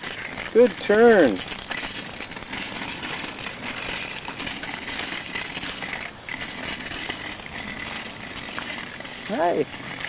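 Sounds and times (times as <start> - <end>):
bike rattling over pavement: 0.0 - 10.0.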